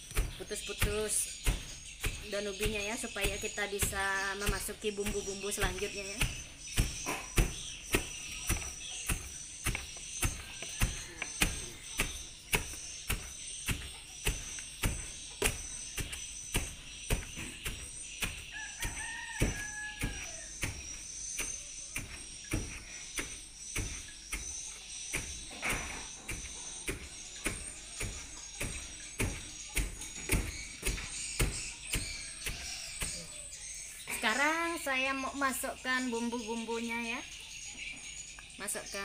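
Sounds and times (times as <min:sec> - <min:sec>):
wooden pestle pounding in plastic can: 0:00.0 - 0:33.8.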